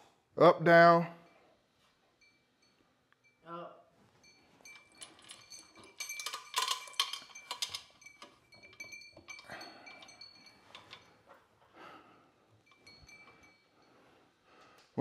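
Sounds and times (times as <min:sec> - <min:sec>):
crystal prisms clinking: 0:01.2 - 0:15.0.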